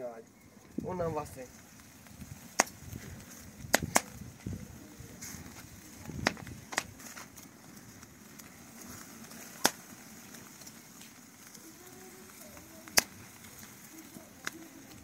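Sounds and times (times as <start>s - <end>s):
wood fire crackling: 0.0s - 15.0s
sharp fire pops: 0.7s - 15.0s.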